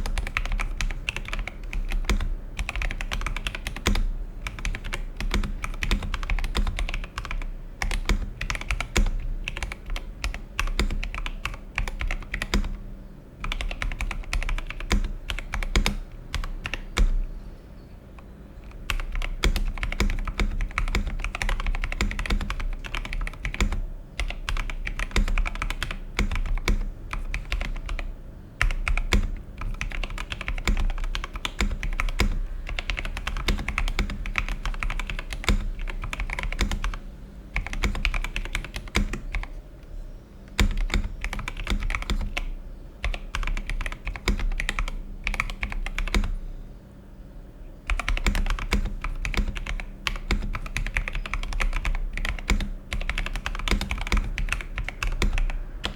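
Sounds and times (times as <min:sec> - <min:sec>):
mechanical keyboard typing: 0:00.0 - 0:12.8, 0:13.4 - 0:17.3, 0:18.2 - 0:39.6, 0:40.5 - 0:46.4, 0:47.9 - 0:55.9.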